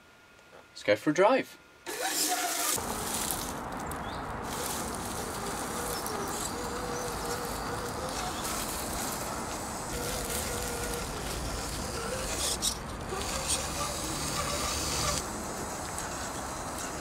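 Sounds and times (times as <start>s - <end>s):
electric motor whining: 1.9s - 17.0s.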